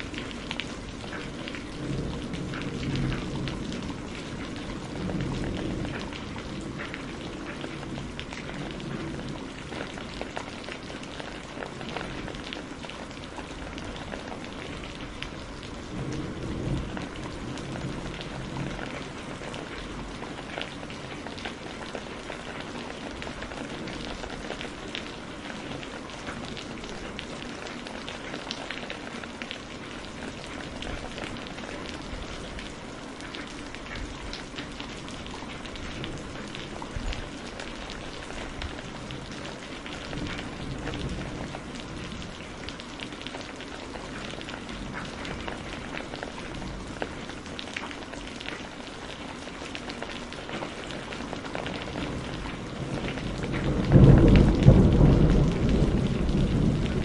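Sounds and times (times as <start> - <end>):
rain falling: 0.0 - 57.0
raindrops splashing: 0.0 - 57.0.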